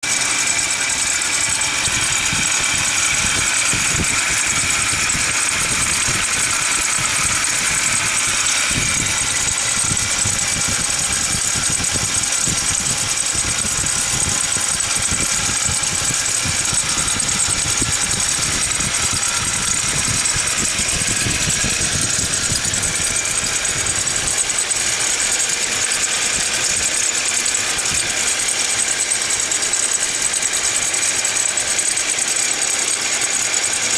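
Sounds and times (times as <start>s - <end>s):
engine running: 0.0s - 33.9s
fast pulley rattle: 0.0s - 33.9s
high-pitched belt whine: 0.0s - 33.9s.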